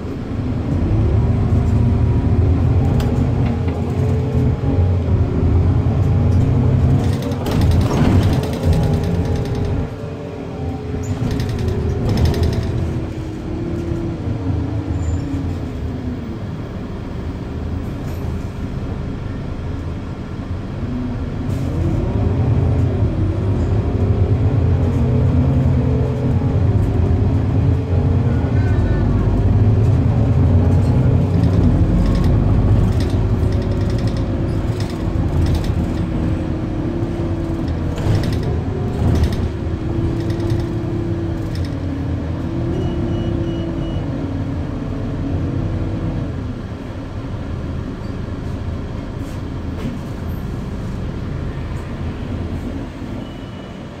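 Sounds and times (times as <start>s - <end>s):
bus engine drone with whine: 0.0s - 54.0s.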